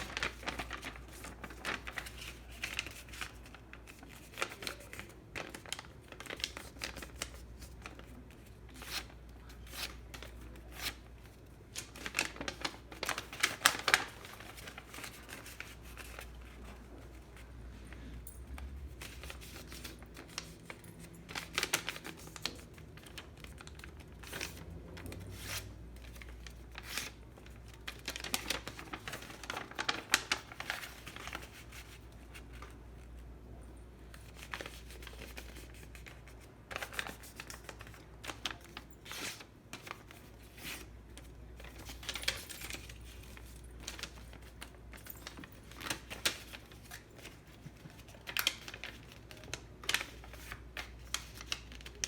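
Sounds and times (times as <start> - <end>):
paper rustling and crinkling: 0.0 - 33.2, 34.0 - 52.0.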